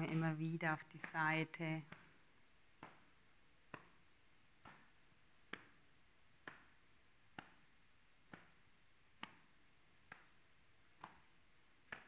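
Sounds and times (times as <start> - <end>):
hands slapping body: 1.9 - 12.0.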